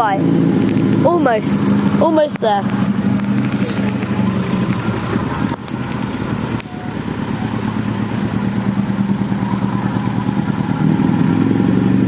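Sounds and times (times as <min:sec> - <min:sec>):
car engine idling unevenly: 0:00.0 - 0:12.0.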